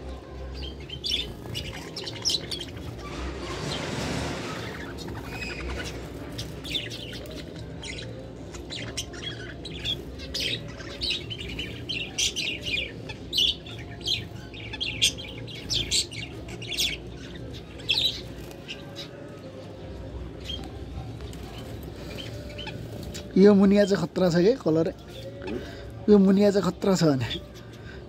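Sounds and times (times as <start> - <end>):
small parrots chirping and squawking: 0.1 - 26.2.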